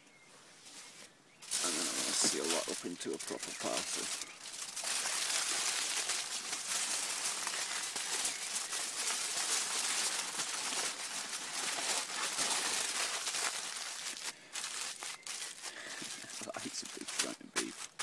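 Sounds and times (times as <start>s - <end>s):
tin foil crinkling: 1.4s - 18.0s.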